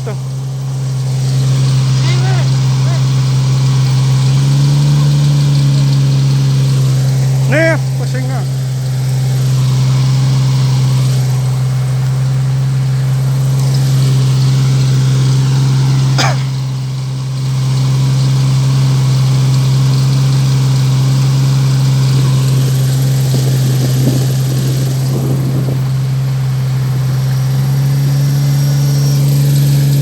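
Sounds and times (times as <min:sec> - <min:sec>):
car engine running steadily: 0:00.0 - 0:30.0.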